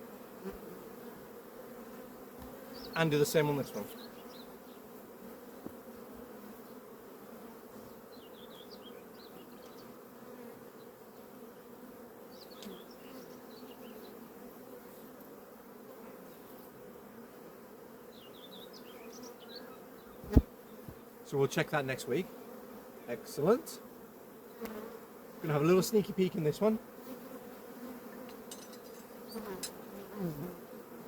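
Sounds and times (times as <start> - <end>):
bees buzzing at hive: 0.0 - 31.0.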